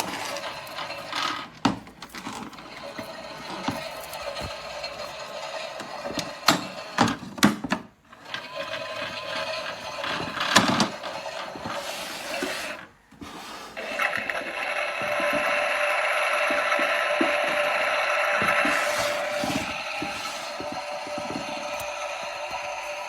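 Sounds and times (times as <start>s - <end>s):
toy washing machine motor hum: 0.0s - 23.0s.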